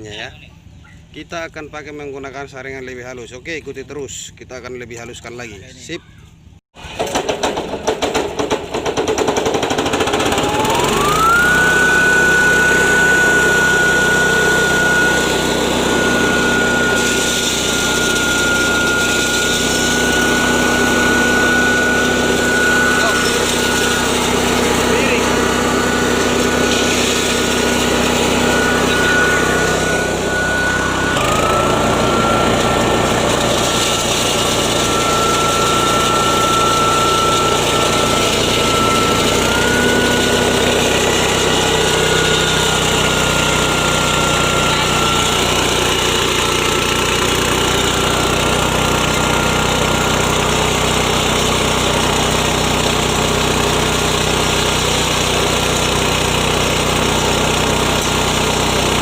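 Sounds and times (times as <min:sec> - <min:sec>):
engine running under load: 0:06.8 - 0:59.0
high whine of grain mill: 0:09.4 - 0:59.0.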